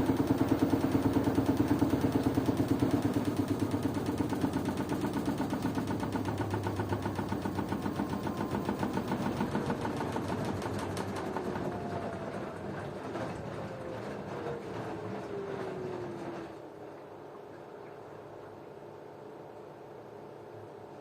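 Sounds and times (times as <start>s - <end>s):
washing machine drum whirring: 0.0s - 17.7s.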